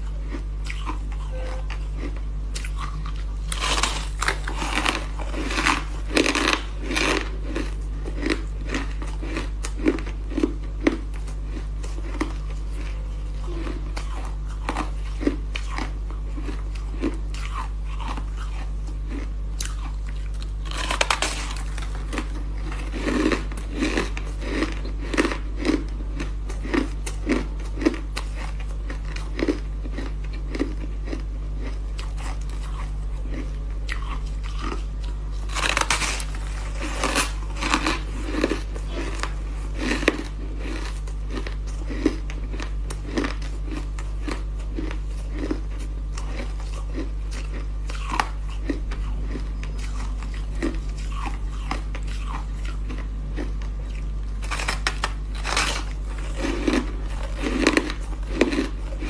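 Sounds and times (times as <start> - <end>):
steady low hum: 0.0 - 59.0
crunching bites of ice: 2.5 - 34.8, 35.4 - 59.0.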